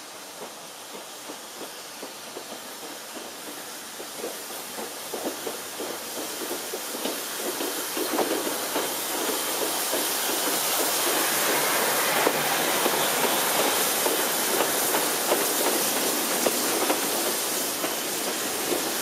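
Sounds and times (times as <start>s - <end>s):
coaches rolling on rails: 0.0s - 19.0s
steam locomotive hissing: 0.0s - 19.0s
train rhythmic clatter: 0.0s - 19.0s.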